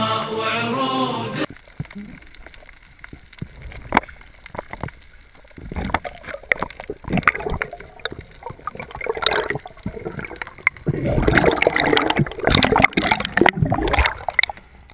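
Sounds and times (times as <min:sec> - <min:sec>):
underwater bubbles gurgling: 0:01.5 - 0:14.9.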